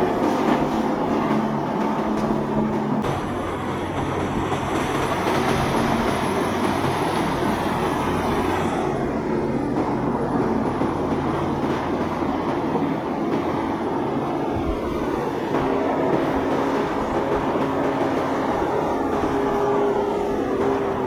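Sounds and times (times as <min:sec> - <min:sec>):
boat engines droning: 0:00.0 - 0:21.0
wind and water rushing: 0:00.0 - 0:21.0.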